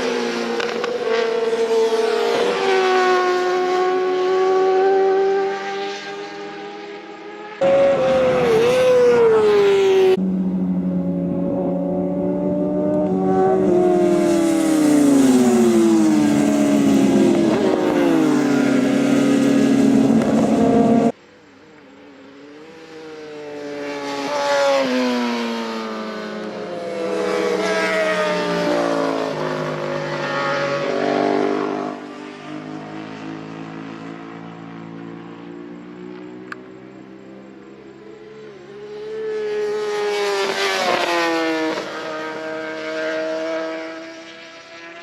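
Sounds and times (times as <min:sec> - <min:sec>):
racing motorcycles passing by: 0:00.0 - 0:45.0.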